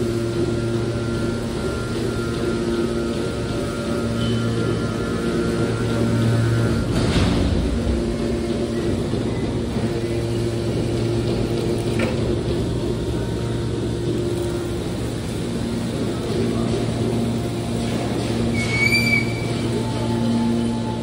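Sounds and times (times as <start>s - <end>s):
baler power unit hum: 0.0s - 21.0s.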